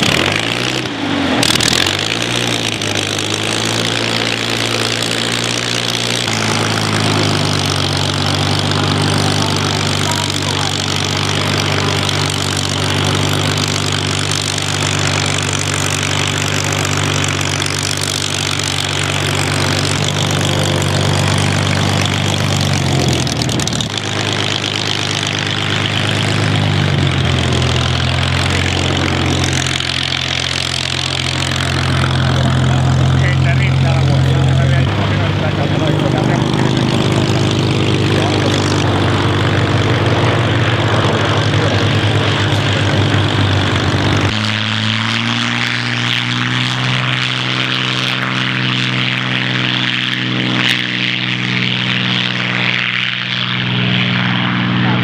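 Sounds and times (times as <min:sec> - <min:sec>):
piston engine idling: 0:00.0 - 0:53.2.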